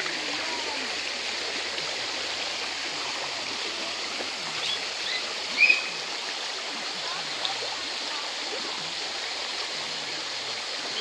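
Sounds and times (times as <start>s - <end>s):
creek babbling over stones: 0.0s - 11.0s.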